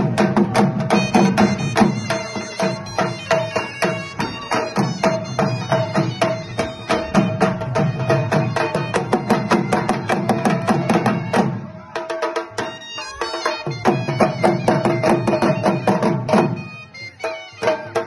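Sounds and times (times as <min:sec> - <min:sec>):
reedy wind instrument melody: 0:00.8 - 0:11.7, 0:12.5 - 0:18.0.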